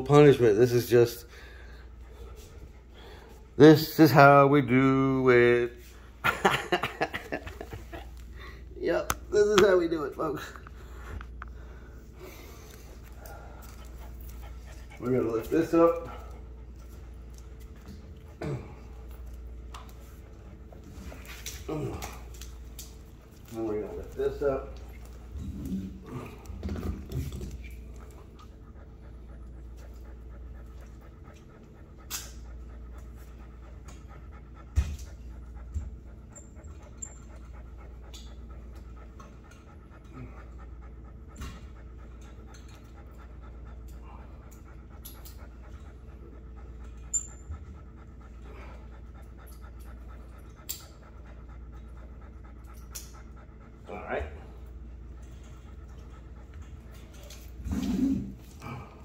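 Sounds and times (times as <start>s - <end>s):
dog panting: 0.0s - 59.0s.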